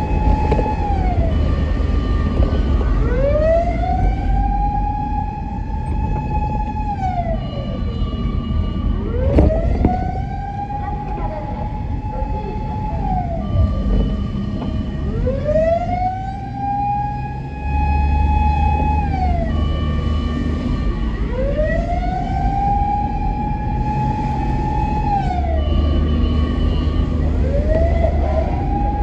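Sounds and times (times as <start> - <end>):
fire vehicle siren wailing: 0.0 - 29.0
low road rumble: 0.0 - 29.0.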